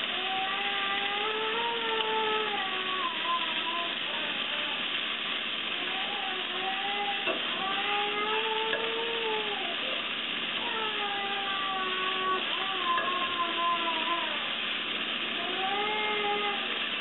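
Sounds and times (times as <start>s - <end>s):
peppers sizzling in frying pan: 0.0s - 17.0s.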